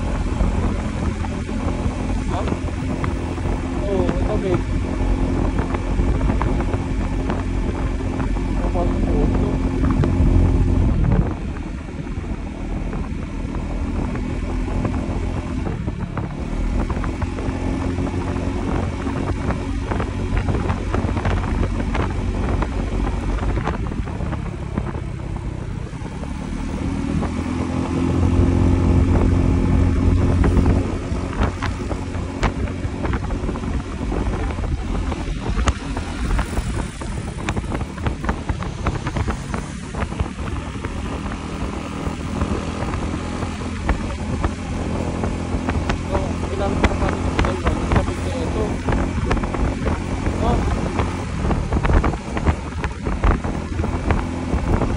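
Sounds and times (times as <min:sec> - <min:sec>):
motorcycle engine cruising: 0:00.0 - 0:54.9
wind noise: 0:00.0 - 0:54.9.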